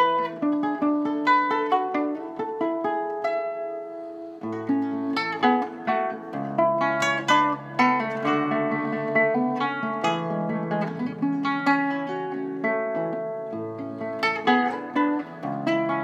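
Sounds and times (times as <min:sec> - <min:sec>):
classical guitar fingerstyle: 0:00.0 - 0:16.0.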